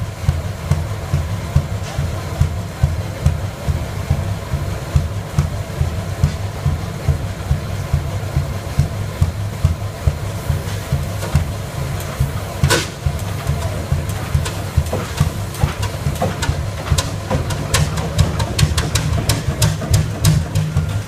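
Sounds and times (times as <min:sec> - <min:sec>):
diesel engine exhaust cracks: 0:00.0 - 0:21.0
oil engine deep thud: 0:00.0 - 0:21.0.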